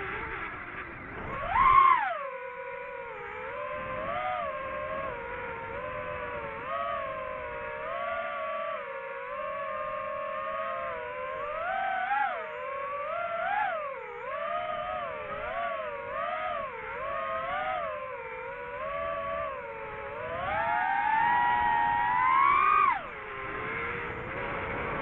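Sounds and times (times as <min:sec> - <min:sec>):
drone propeller whine: 0:00.0 - 0:25.0.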